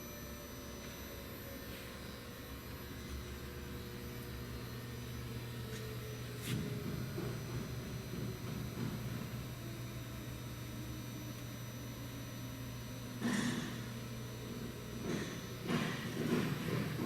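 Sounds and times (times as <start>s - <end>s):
shop machinery electrical hum: 0.0s - 17.0s.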